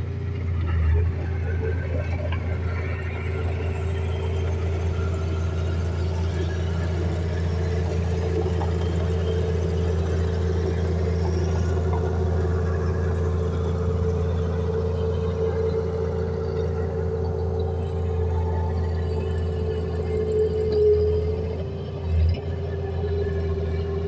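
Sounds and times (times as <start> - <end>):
heavy machine engine humming: 0.0 - 24.0.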